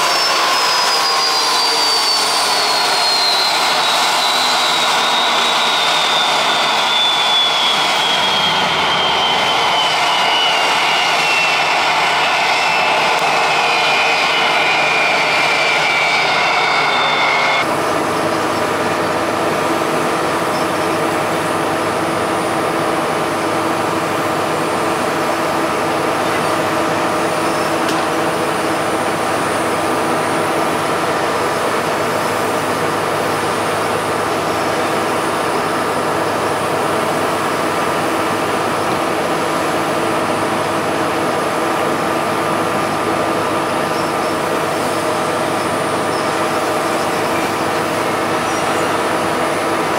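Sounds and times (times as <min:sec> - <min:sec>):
high-pitched whine: 0:00.0 - 0:49.9
jet airliner machinery hum: 0:00.0 - 0:49.9.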